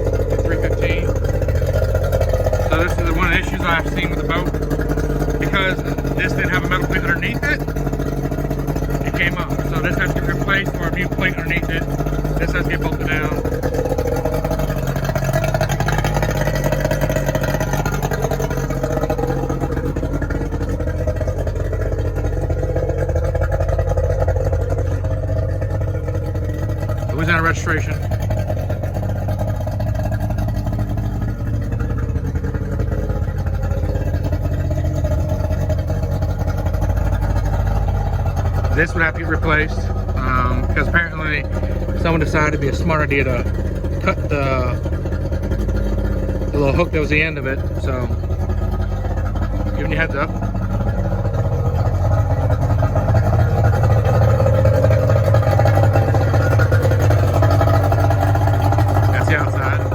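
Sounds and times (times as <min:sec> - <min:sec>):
engine rumbling with hum: 0:00.0 - 0:59.9.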